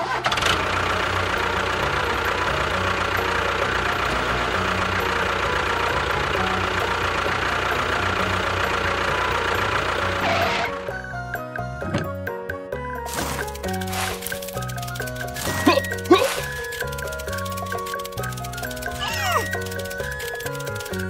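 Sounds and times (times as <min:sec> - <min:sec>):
model tractor motor whirring: 0:00.0 - 0:11.8, 0:13.0 - 0:21.0.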